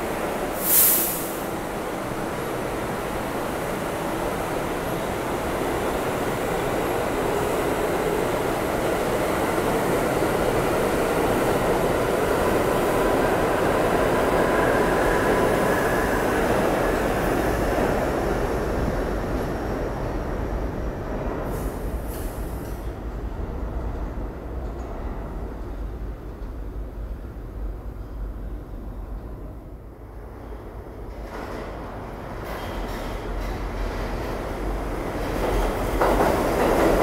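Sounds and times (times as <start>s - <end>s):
subway train rumbling: 0.0s - 37.0s.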